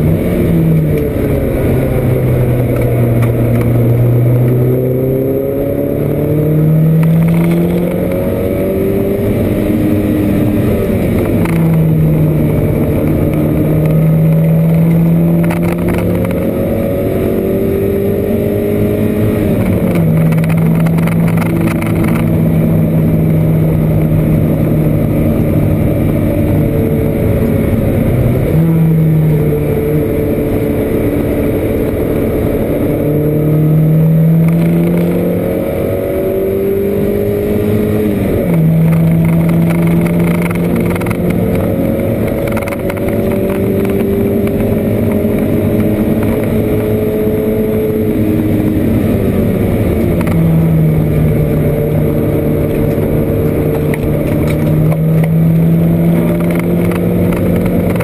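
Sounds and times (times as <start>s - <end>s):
race car engine revving through gears: 0.0s - 58.0s
road and wind noise: 0.0s - 58.0s.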